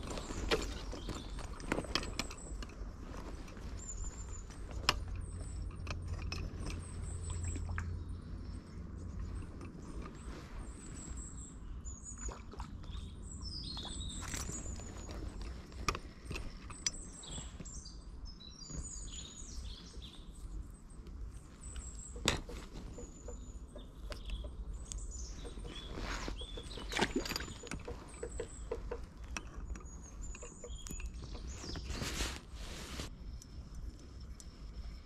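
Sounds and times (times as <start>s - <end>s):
steady low rumble: 0.0s - 12.1s, 12.7s - 35.0s
songbirds singing and chirping: 0.0s - 35.0s.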